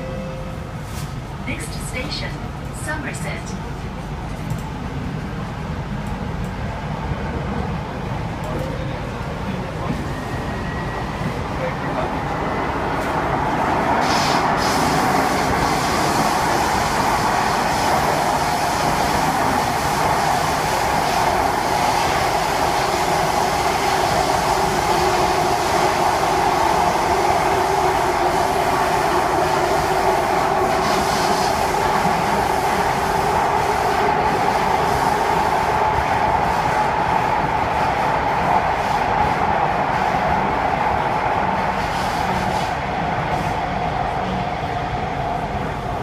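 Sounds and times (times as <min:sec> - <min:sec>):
train wheels rumbling on rail: 0:00.6 - 0:46.0.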